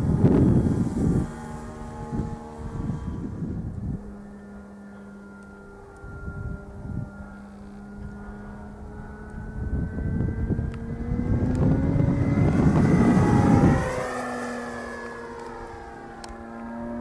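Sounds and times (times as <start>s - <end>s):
wind rumble on microphone: 0.0s - 4.7s, 5.8s - 17.0s
model plane engine droning: 0.0s - 17.0s.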